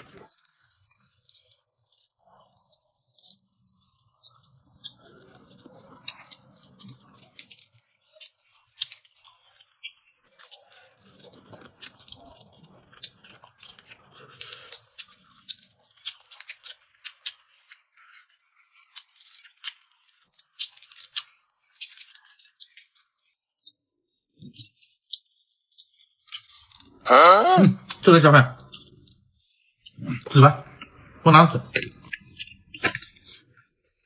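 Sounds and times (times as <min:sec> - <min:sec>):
chewing: 0:00.0 - 0:27.1, 0:27.7 - 0:34.0
shrimp shells crackling as peeled: 0:00.9 - 0:23.7, 0:24.3 - 0:27.0, 0:29.8 - 0:33.7.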